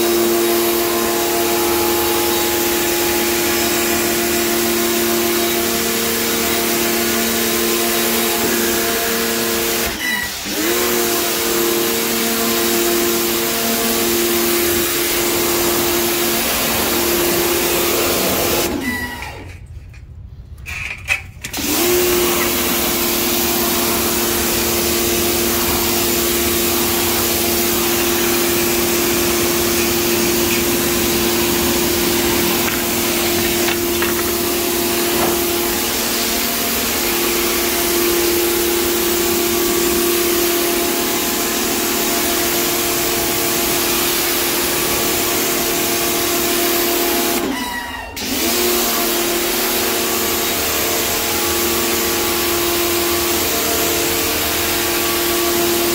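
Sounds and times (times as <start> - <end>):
water spray hissing on tiles: 0.0 - 18.8, 21.7 - 47.5, 48.4 - 55.9
pressure washer motor hum: 0.0 - 19.5, 21.4 - 55.9.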